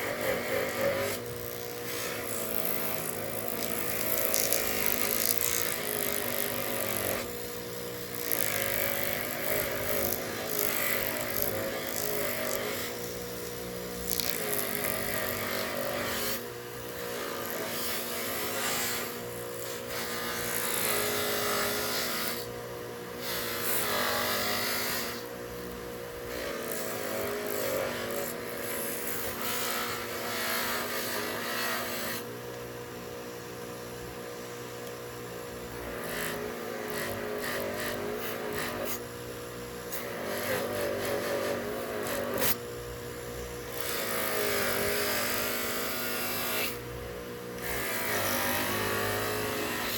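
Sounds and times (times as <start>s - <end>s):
power tool motor hum: 0.0s - 49.9s.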